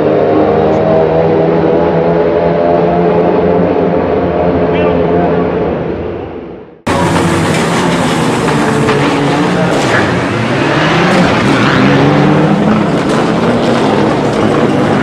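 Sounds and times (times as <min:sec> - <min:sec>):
rally car engines revving: 0:00.0 - 0:15.0.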